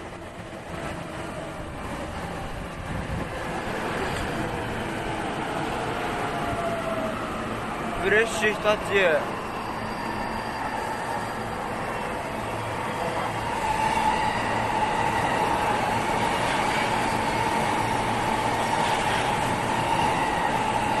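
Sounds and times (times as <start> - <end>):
train rumble: 0.0 - 21.0
train whine: 0.0 - 21.0.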